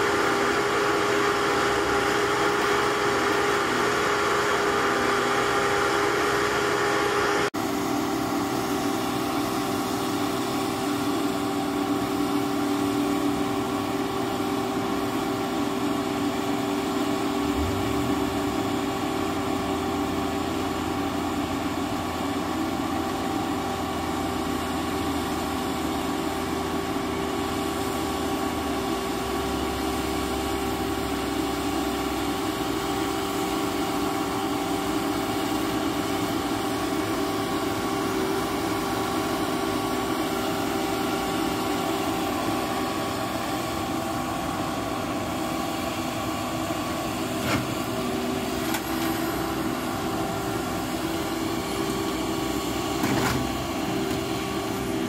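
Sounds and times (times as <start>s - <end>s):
baler engine and hydraulics running: 0.0s - 55.0s.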